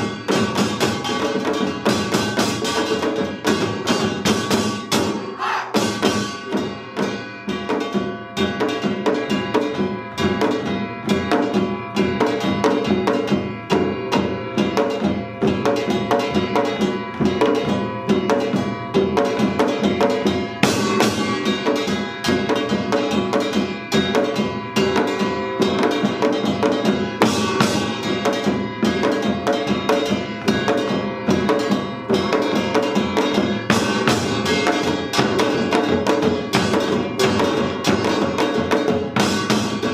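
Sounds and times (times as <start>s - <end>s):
drums beaten in fast patterns: 0.0s - 39.9s
ringing metal gong: 0.0s - 39.9s.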